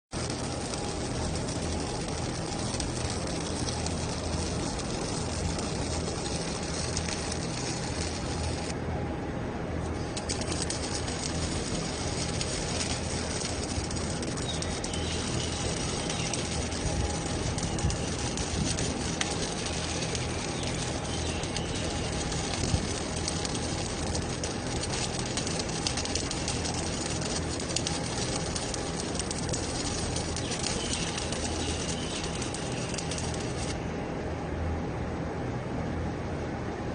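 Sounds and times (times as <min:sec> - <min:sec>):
welding arc crackling hiss: 0:00.1 - 0:08.8, 0:09.9 - 0:33.8
low hum: 0:00.1 - 0:36.9.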